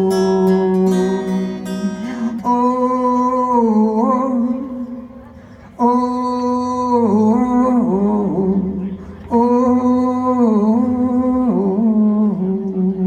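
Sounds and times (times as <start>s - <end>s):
man humming: 0.0s - 13.0s.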